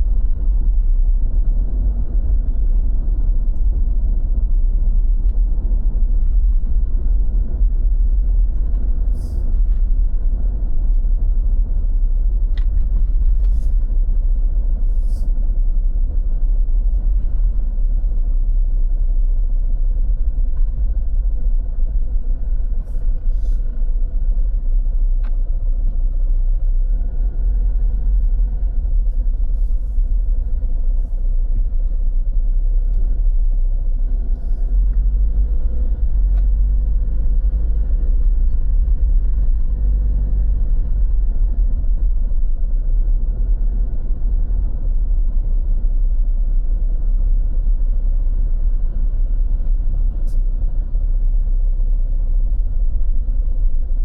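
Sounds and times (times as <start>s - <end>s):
loud low rumble: 0.0s - 54.0s.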